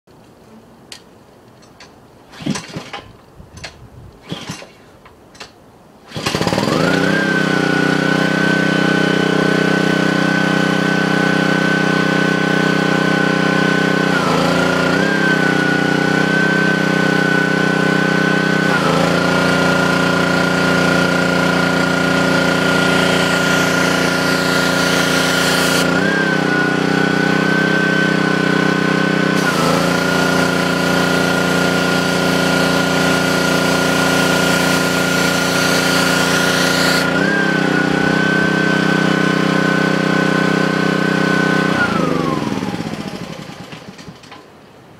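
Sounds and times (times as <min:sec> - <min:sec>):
pressure washer engine running: 0:06.1 - 0:44.3.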